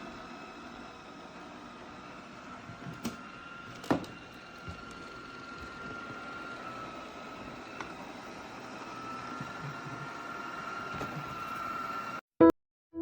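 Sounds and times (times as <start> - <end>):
robot vacuum fan whirring: 0.0 - 12.2.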